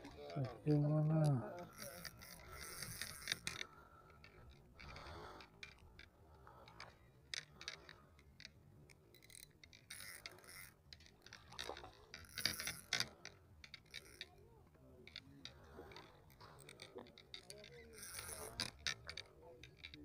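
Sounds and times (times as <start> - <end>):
fishing reel clicking: 0.0 - 20.0.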